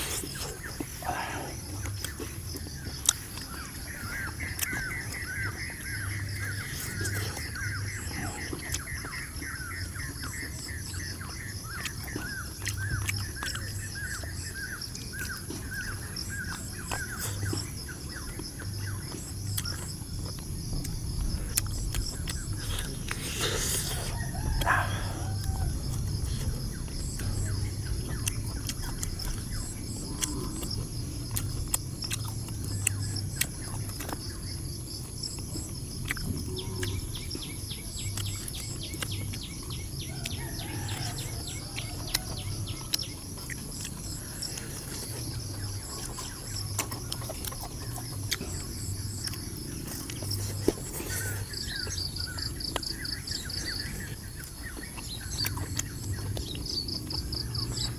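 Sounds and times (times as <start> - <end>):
high insect drone: 0.0 - 57.9
insects and birds chirping: 0.0 - 57.9.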